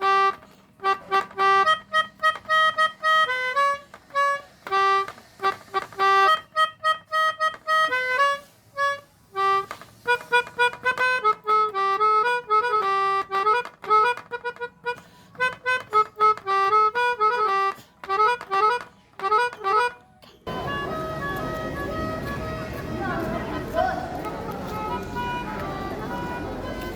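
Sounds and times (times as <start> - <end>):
melodica playing short notes: 0.0 - 26.9.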